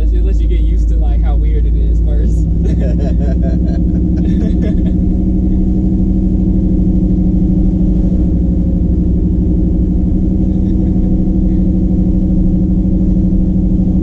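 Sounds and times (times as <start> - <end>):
pickup engine and exhaust droning: 0.0 - 14.0.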